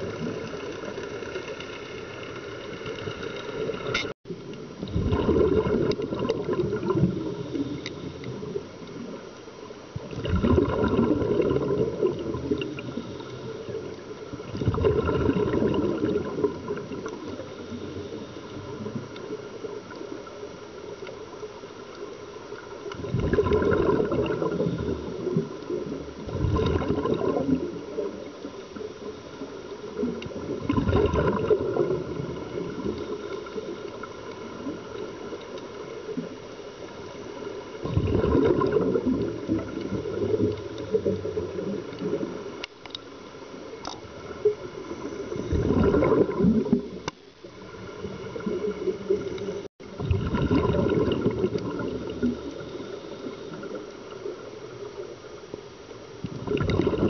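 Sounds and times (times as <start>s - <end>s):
exhaled bubbles gurgling: 0.0s - 1.6s, 2.2s - 21.5s, 22.5s - 42.6s, 43.5s - 57.0s
watery underwater background: 0.0s - 57.0s.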